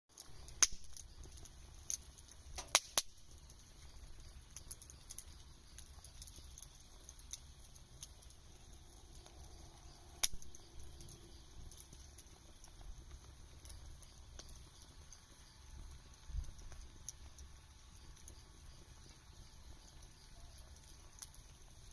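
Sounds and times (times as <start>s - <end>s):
campfire crackling and popping: 0.1s - 21.9s.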